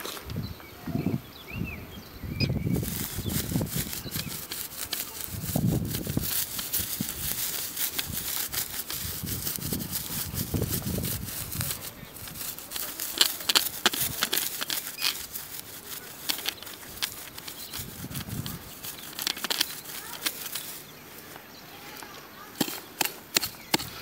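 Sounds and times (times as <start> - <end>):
dry grass crackling and rustling: 2.6 - 24.0.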